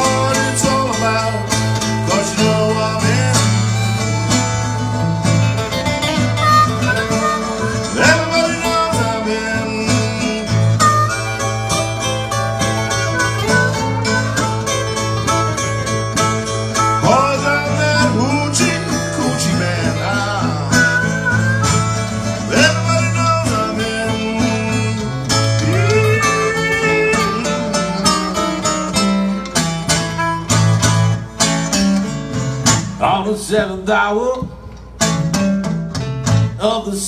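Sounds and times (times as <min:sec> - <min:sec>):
blues harmonica solo: 0:00.0 - 0:32.2
acoustic guitars strumming: 0:00.0 - 0:37.0.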